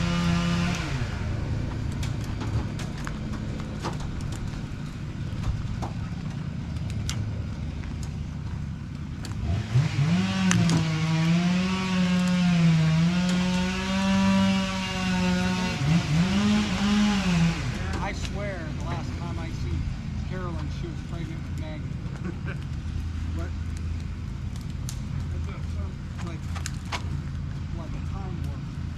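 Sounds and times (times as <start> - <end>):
engine revving: 0.0 - 28.9
low engine rumble: 0.0 - 28.9.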